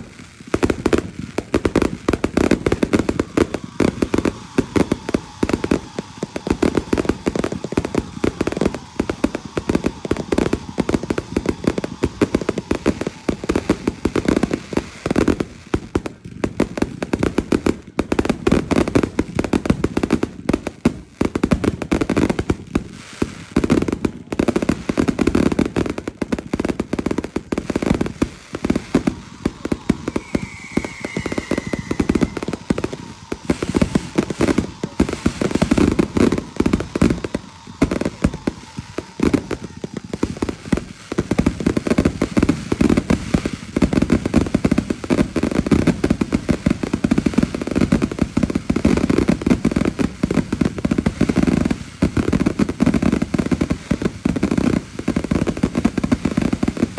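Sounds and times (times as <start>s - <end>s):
falling firework whistle: 0.0s - 56.9s
fireworks popping and crackling: 0.0s - 56.9s.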